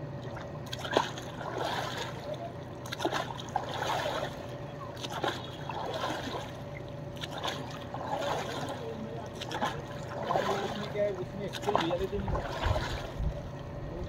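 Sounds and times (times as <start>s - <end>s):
river water splashing: 0.0s - 14.0s.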